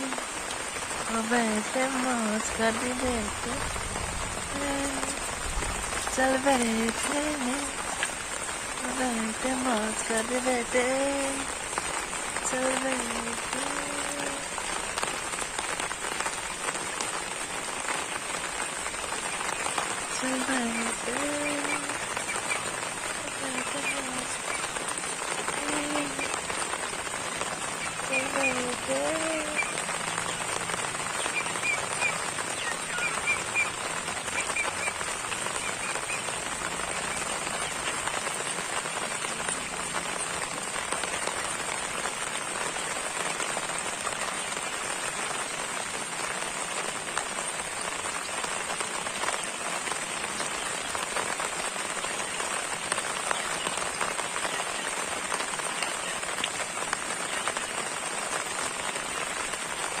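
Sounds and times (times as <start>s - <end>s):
steady rain falling: 0.0s - 60.0s.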